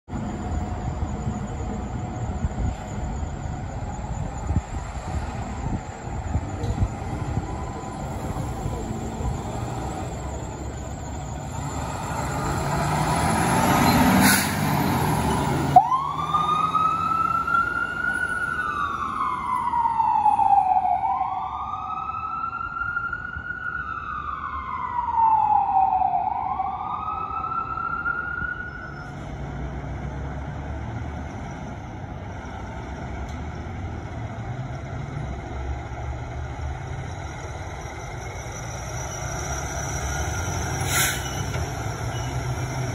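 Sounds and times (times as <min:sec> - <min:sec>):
fire engine siren wailing: 0:00.1 - 0:30.2, 0:31.2 - 0:42.9.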